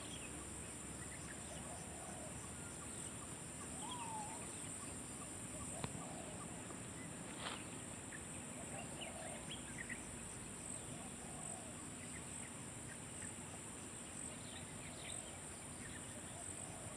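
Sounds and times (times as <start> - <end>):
faint chirps: 0.0 - 16.9
insects buzzing: 0.0 - 16.9.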